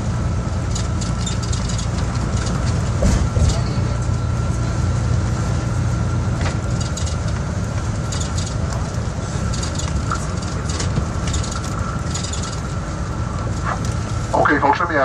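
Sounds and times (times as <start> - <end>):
bus engine and road rumble: 0.0 - 15.0
faint steady whine: 0.0 - 15.0
light rattles and clicks: 0.6 - 4.3, 6.2 - 14.8.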